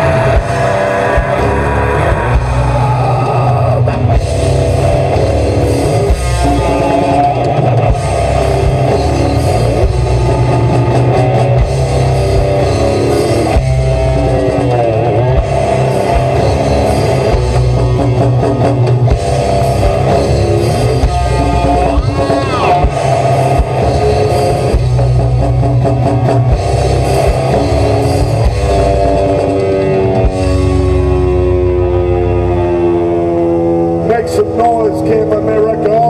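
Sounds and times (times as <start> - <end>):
heavy rock band playing: 0.0 - 36.0.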